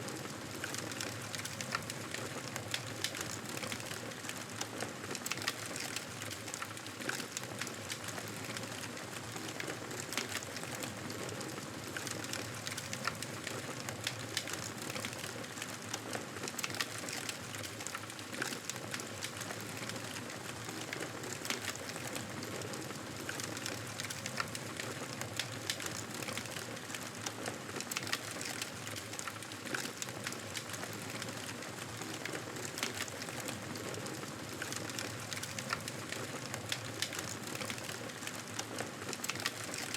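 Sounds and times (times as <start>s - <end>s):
wood fire crackling: 0.2s - 39.9s.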